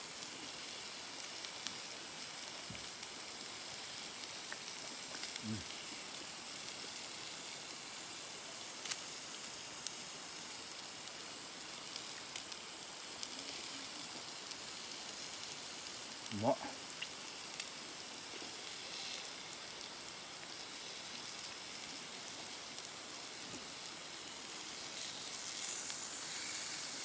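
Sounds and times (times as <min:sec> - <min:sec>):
fire popping and crackling: 0:00.0 - 0:27.0
steak sizzling in a skillet: 0:00.0 - 0:27.0.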